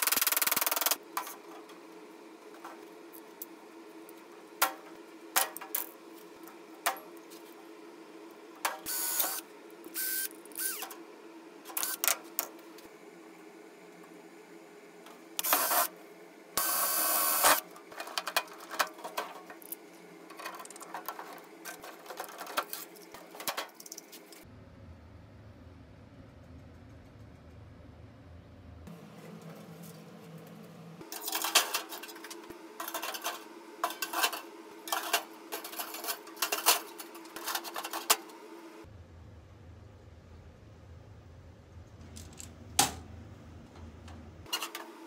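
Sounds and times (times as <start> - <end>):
steady low hum: 0.0 - 44.5.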